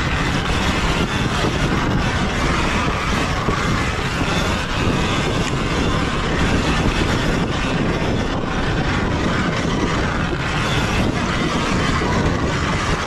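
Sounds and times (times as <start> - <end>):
wind rushing on microphone: 0.0 - 13.0.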